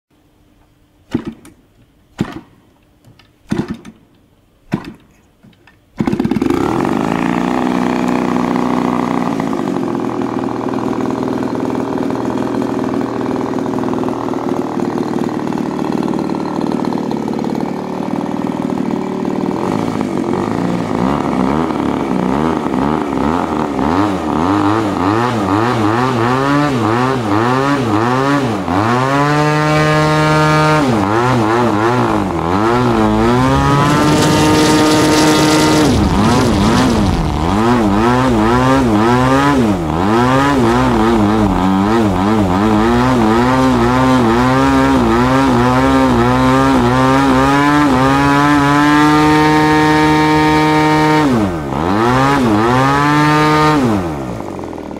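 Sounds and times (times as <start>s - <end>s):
model aircraft engine running: 6.0s - 28.7s, 30.5s - 52.7s.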